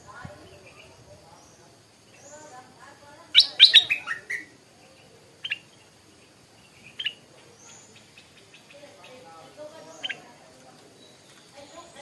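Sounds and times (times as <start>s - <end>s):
bulbul singing: 0.0s - 12.0s.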